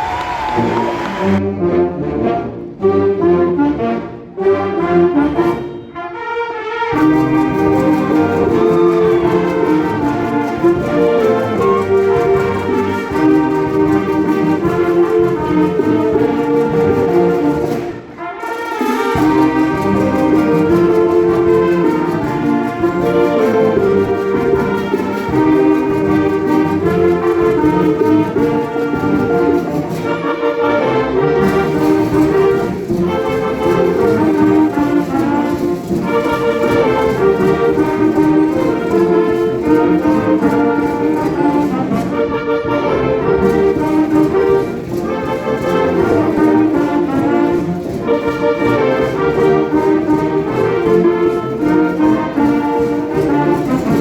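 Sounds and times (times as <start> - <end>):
wind band playing: 0.0 - 54.0
brass held chords: 0.4 - 54.0.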